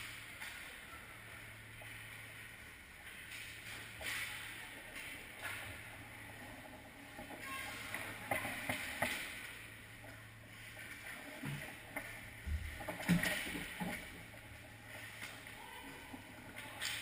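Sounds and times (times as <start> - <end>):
low rink hum: 0.0 - 17.0.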